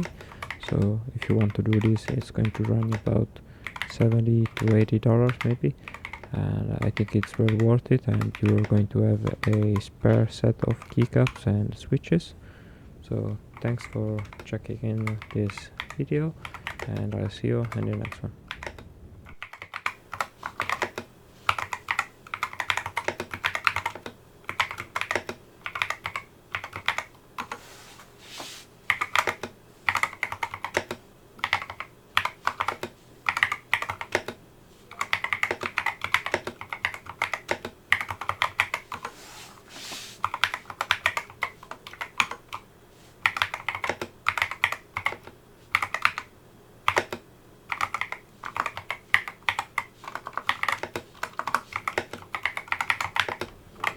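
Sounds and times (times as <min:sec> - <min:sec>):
mechanical keyboard typing: 0:00.0 - 0:11.4, 0:13.6 - 0:27.6, 0:28.9 - 0:39.2, 0:40.2 - 0:42.6, 0:43.2 - 0:53.9.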